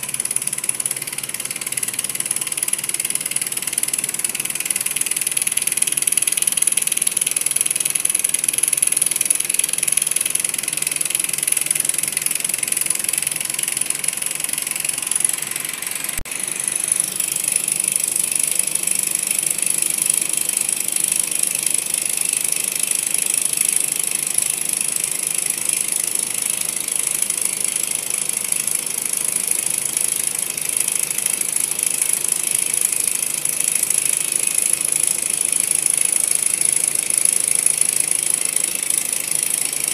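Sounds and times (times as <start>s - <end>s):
model engine mechanical rattle: 0.0s - 39.9s.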